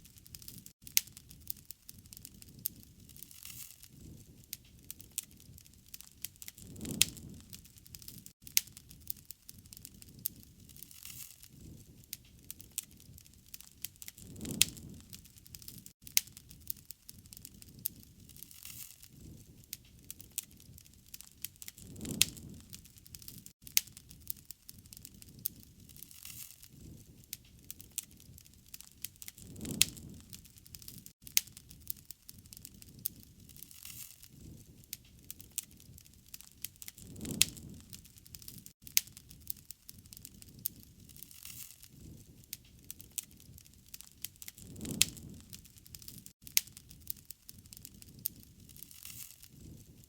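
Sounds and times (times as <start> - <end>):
low rush of flames: 0.0 - 50.0
wood fire crackling: 0.0 - 50.0.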